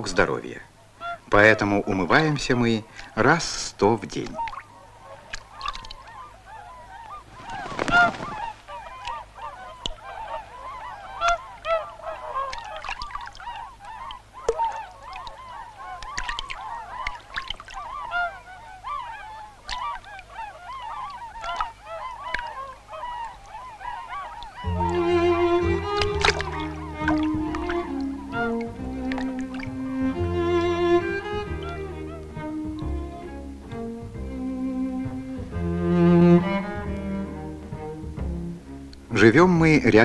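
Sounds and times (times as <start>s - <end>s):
waterfowl calling: 0.0s - 40.0s.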